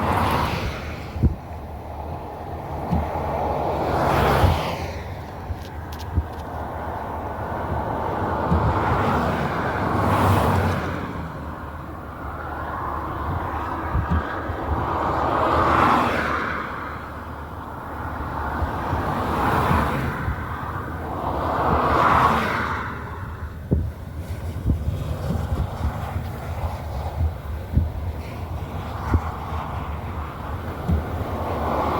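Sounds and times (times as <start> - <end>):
strong gusty wind: 0.0 - 31.9
wind buffeting microphone: 0.0 - 31.9.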